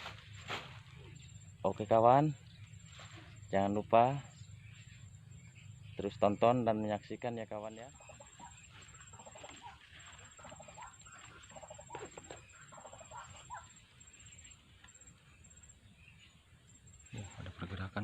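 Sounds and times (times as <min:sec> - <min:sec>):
faint bird calls: 0:00.0 - 0:18.0.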